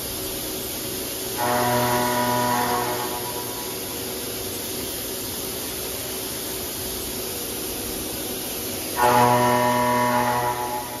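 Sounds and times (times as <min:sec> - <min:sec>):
machining center humming: 0:00.0 - 0:11.0.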